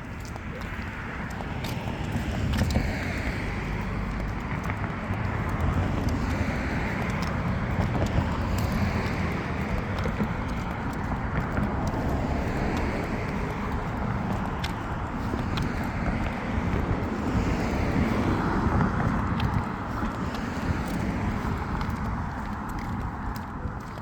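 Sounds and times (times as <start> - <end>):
road traffic rumble: 0.0 - 24.0
wind buffeting microphone: 0.0 - 24.0
light ticks: 0.1 - 16.8, 17.7 - 24.0.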